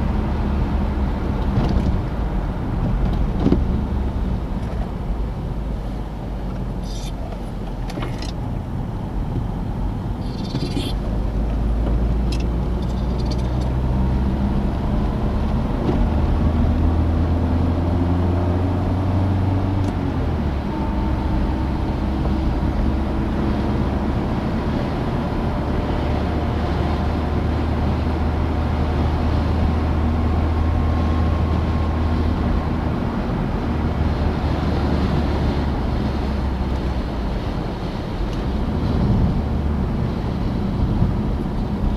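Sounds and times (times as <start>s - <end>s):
car engine accelerating: 0.0s - 41.9s
road noise: 0.0s - 41.9s.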